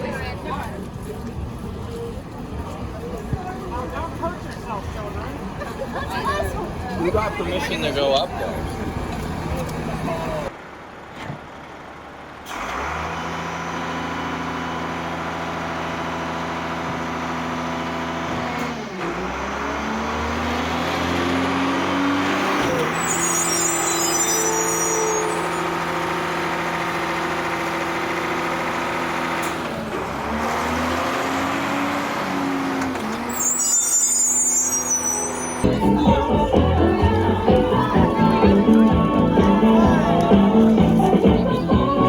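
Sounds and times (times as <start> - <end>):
large truck engine running: 0.0 - 42.0.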